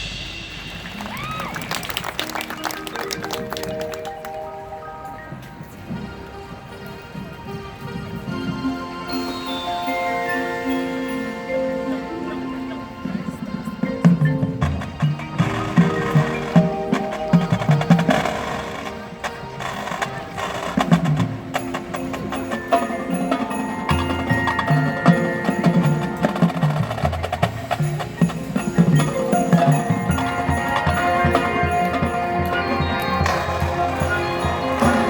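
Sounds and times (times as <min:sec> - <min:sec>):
mallet percussion: 0:00.0 - 0:35.0
marching band playing: 0:00.0 - 0:35.0.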